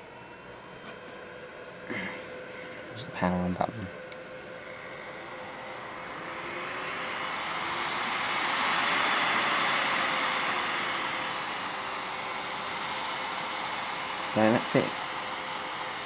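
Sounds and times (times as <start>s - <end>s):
server cooling fans whirring: 0.0s - 16.0s.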